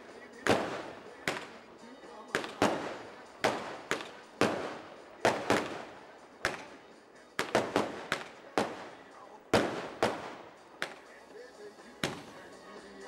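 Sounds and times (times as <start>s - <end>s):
firework bangs: 0.0s - 11.4s, 12.0s - 12.8s.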